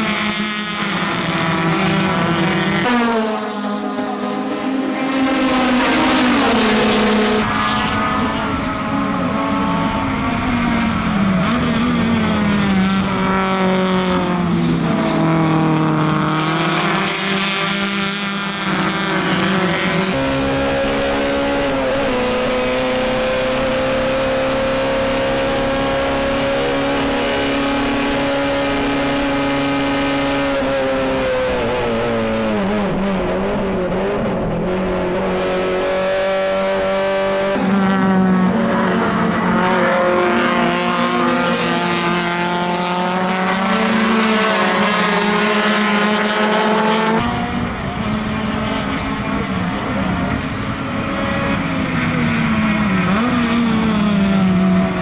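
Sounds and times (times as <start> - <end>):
race car engine revving high: 0.0 - 55.0.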